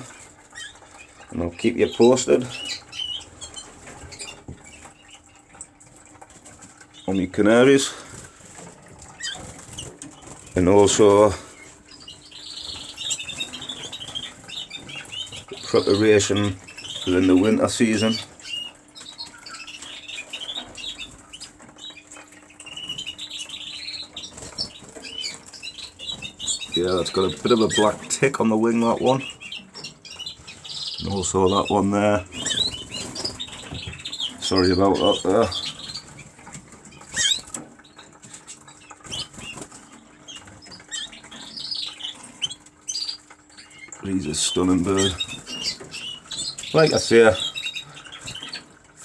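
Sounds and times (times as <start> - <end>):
canaries chirping: 0.0 - 49.0
canaries fluttering and hopping: 0.0 - 49.0.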